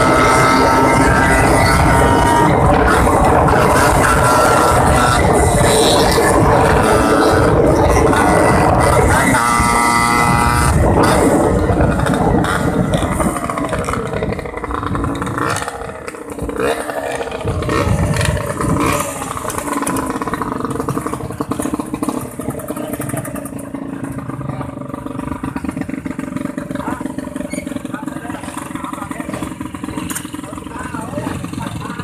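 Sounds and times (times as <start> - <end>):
motorcycle engine revving: 0.0 - 32.0
rattling over rough ground: 0.0 - 32.0.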